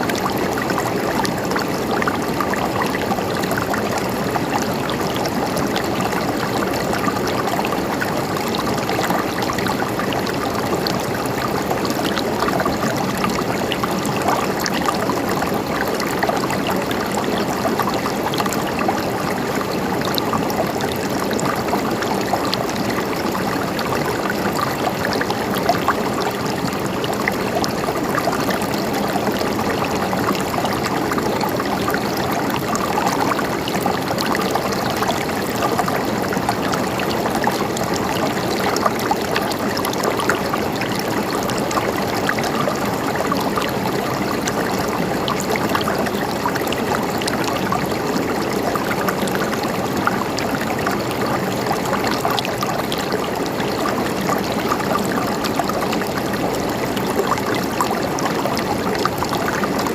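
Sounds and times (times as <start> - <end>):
stream gurgling over stones: 0.0 - 59.9.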